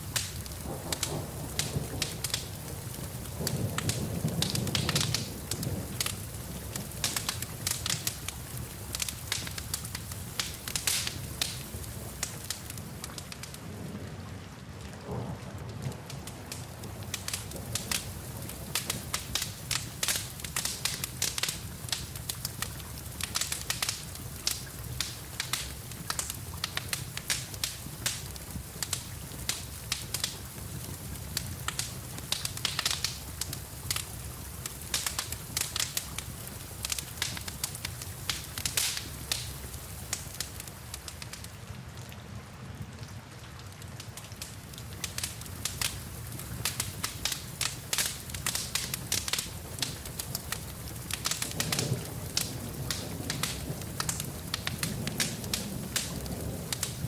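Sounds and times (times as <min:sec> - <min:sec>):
wood fire crackling and popping: 0:00.0 - 0:13.7, 0:14.3 - 0:42.2, 0:43.7 - 0:57.0
rain hissing: 0:00.0 - 0:42.4, 0:44.0 - 0:57.0.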